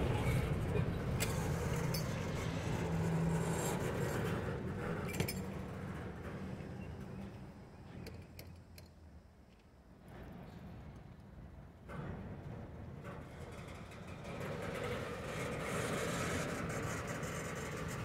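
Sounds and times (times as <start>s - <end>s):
train wheels rumbling on rails: 0.0s - 8.6s, 10.0s - 18.0s.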